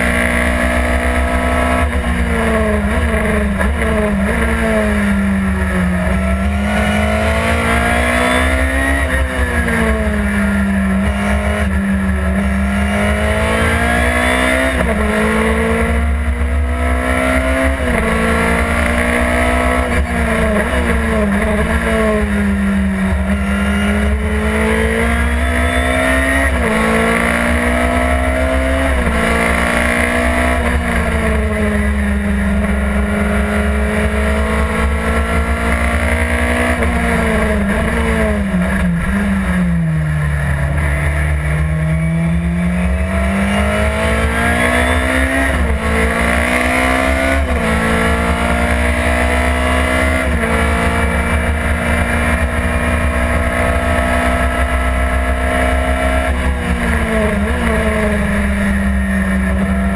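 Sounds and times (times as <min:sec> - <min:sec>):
racing car engine revving: 0:00.0 - 0:59.9.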